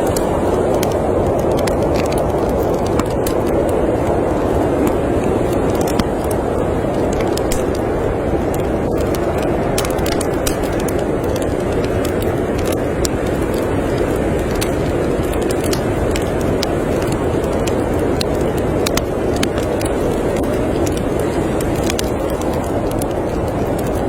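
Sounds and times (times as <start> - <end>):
storm wind blowing: 0.0 - 24.0
wood fire crackling and popping: 0.0 - 24.0.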